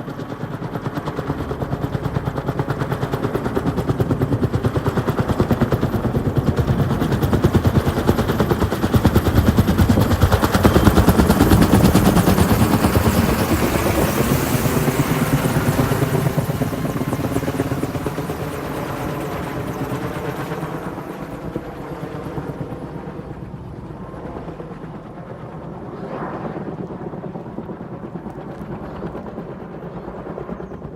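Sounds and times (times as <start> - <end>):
helicopter rotor chopping: 0.0 - 30.9.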